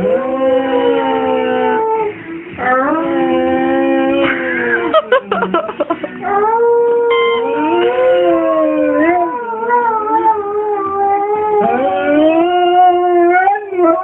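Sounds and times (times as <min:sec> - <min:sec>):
dog howling: 0:00.0 - 0:04.2, 0:06.3 - 0:14.0.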